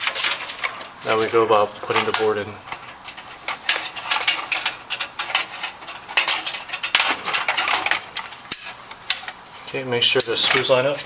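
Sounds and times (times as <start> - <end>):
metallic clinks and scrapes: 0.0 - 11.0.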